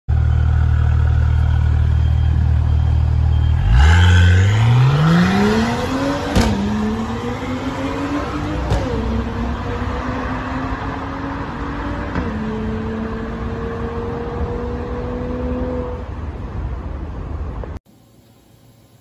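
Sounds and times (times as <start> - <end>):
car engine idling and accelerating: 0.1 - 17.8.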